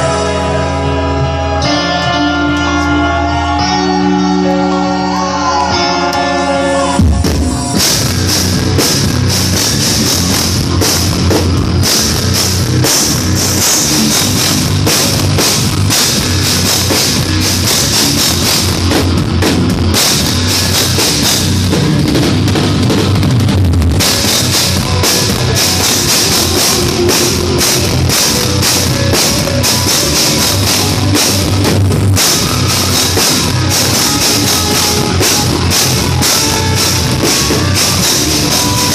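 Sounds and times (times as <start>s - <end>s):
electric guitars: 0.0s - 38.9s
drum kit fast beat: 7.0s - 38.9s.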